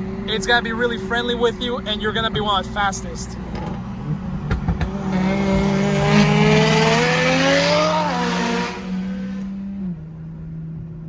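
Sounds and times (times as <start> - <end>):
car engine pulling hard: 0.0 - 10.1.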